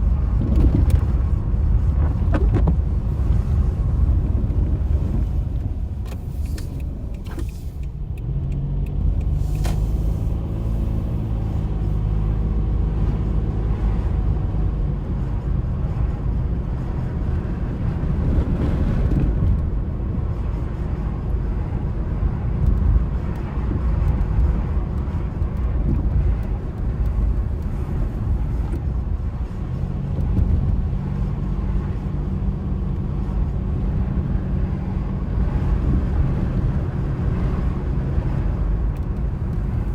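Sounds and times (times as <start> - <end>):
car engine and road noise: 0.0 - 39.9
steady engine hum: 0.0 - 39.9.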